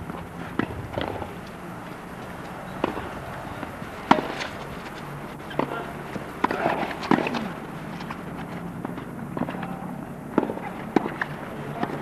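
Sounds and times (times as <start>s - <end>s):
tennis balls bouncing on court: 0.0s - 12.0s
tennis balls struck by rackets: 0.0s - 12.0s.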